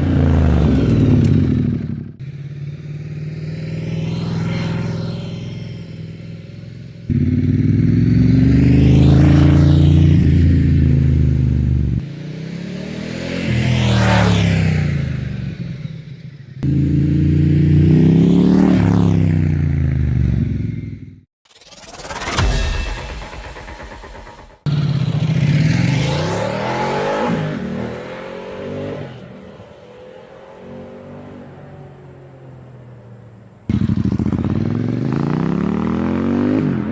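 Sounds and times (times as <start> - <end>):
motorcycle engine revving past: 0.0 - 21.2, 24.1 - 33.1, 33.7 - 36.9.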